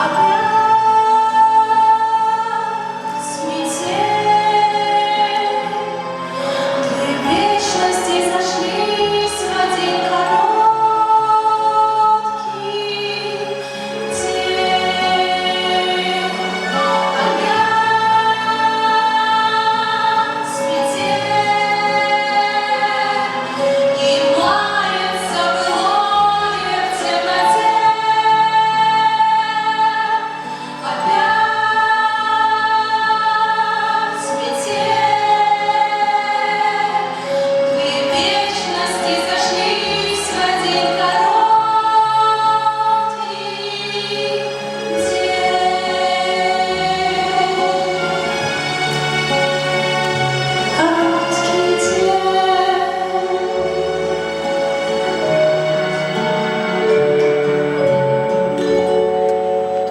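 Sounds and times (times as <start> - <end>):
women singing in a group: 0.0 - 49.0
instrumental backing: 0.0 - 59.9.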